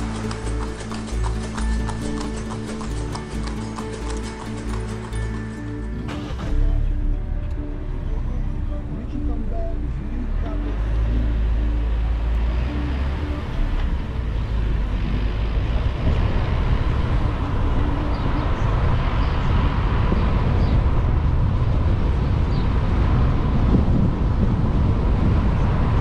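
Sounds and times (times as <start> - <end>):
car driving on road: 0.0 - 26.0.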